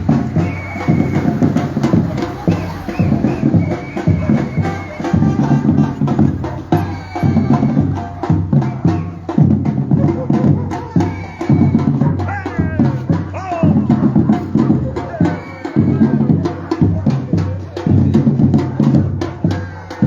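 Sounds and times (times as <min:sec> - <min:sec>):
percussion group playing: 0:00.0 - 0:20.0.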